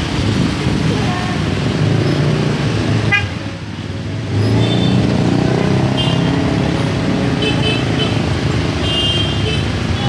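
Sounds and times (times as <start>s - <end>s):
traffic engines running: 0.0s - 10.0s.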